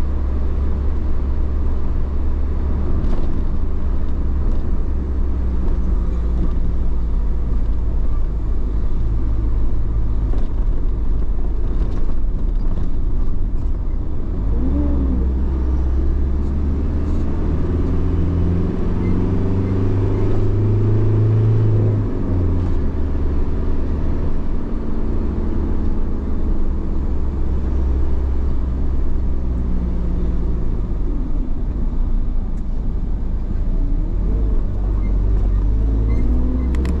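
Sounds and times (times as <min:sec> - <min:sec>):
car engine hum: 0:00.0 - 0:37.0
tyre and road noise: 0:00.0 - 0:37.0.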